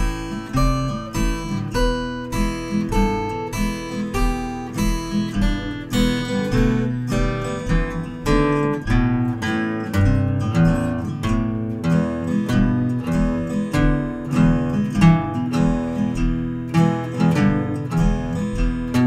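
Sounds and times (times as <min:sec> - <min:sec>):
fingerstyle acoustic guitar: 0:00.0 - 0:19.0.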